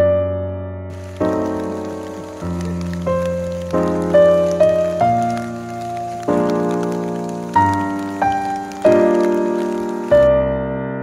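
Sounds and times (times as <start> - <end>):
soft piano chords: 0.0 - 11.0
light rain patter: 0.9 - 10.3.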